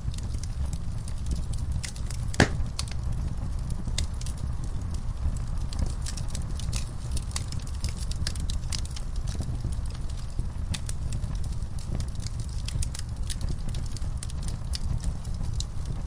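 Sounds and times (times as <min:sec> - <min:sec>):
fire popping and snapping: 0:00.0 - 0:16.0
low rumble of flames: 0:00.0 - 0:16.0.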